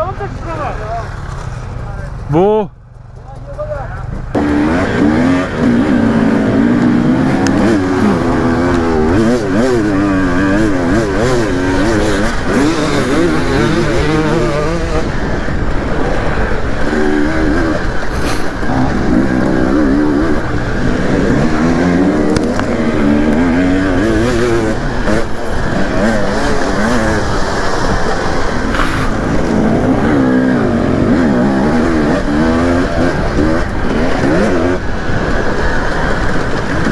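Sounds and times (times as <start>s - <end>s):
dirt bike engine revving: 4.1s - 36.9s.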